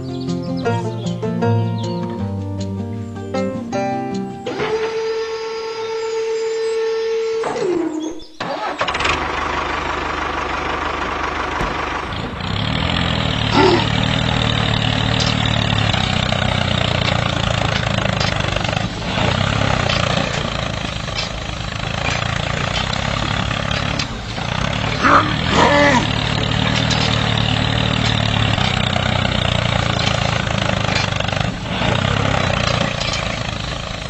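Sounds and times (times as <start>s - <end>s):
tractor engine starting and running: 3.4s - 34.0s.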